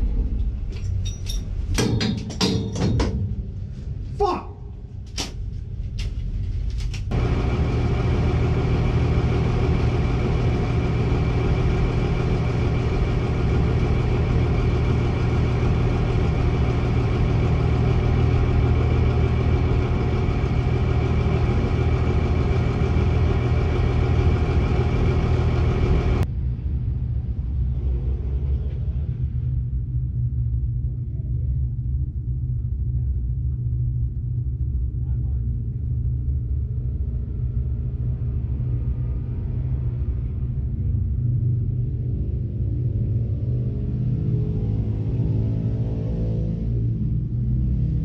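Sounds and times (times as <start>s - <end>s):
diesel engine droning steadily: 0.0s - 48.0s.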